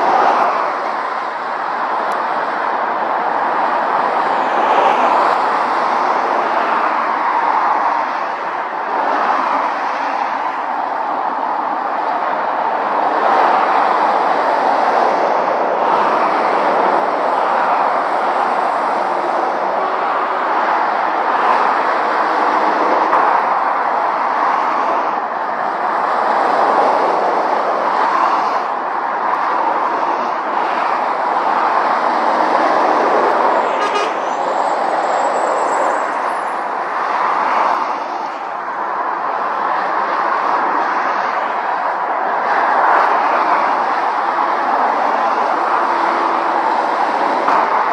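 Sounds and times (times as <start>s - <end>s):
motorway traffic roaring: 0.0s - 47.9s.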